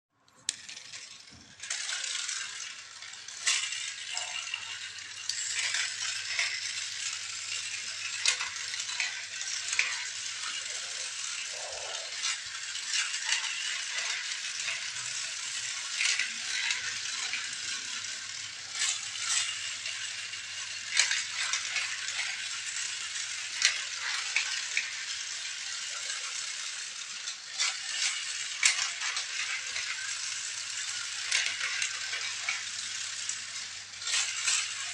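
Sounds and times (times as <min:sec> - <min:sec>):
toy vehicles rattling and clicking: 0:00.2 - 0:34.9.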